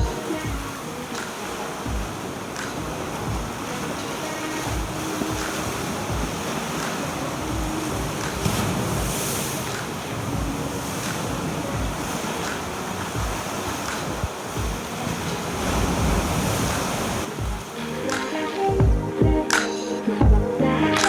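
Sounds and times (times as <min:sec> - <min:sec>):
wind buffeting microphone: 0:00.0 - 0:17.7
waves breaking on beach: 0:00.0 - 0:18.8.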